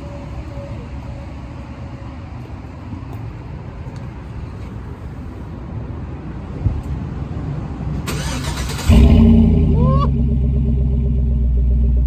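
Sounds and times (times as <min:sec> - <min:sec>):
low rumble of vehicles: 0:00.0 - 0:12.0.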